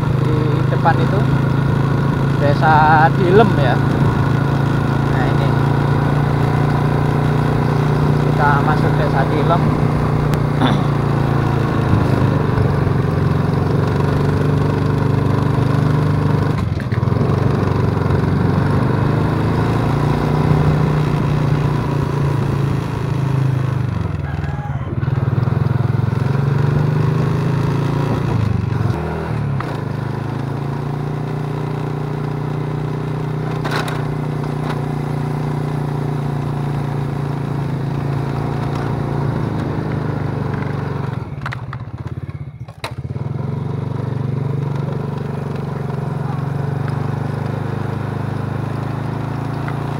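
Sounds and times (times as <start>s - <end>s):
small motorcycle engine running: 0.0s - 49.9s.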